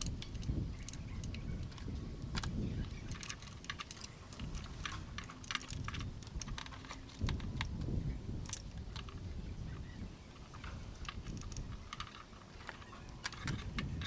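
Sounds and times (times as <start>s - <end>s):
light clicks and taps: 0.0s - 14.0s.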